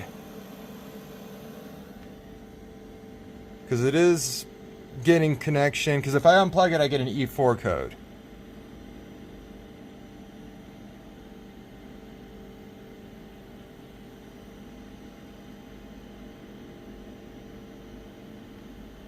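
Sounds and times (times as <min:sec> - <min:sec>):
heater fan humming: 0:00.0 - 0:19.0.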